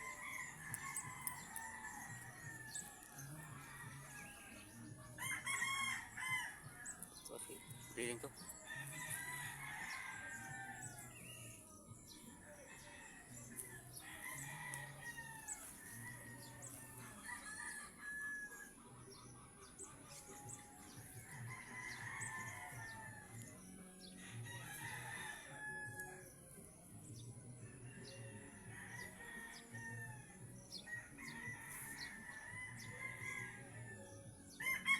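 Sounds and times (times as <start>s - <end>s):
roosters crowing: 0.0s - 34.9s.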